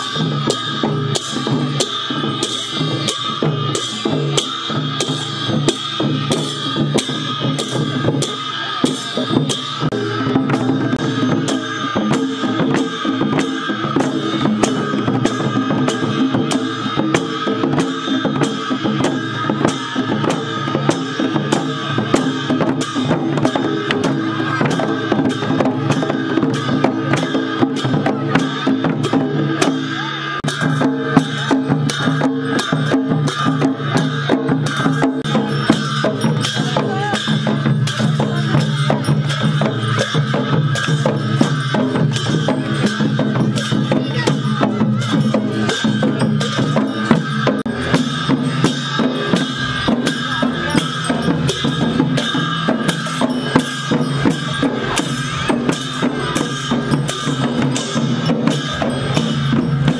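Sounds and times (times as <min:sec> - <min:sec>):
barrel drums played in rhythm: 0:00.0 - 0:59.9.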